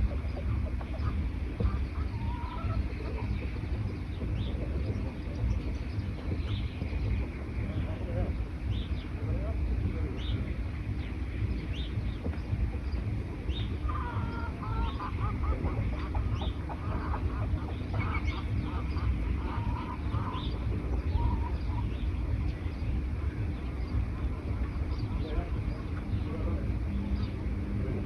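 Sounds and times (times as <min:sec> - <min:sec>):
lower wavering bird calls: 0:00.0 - 0:28.0
steady low rumble: 0:00.0 - 0:28.0.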